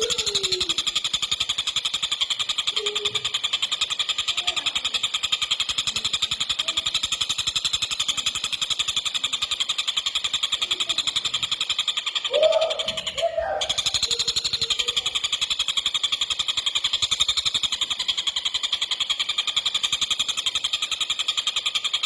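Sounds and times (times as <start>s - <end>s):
bird calling rattling notes: 0.0s - 22.0s.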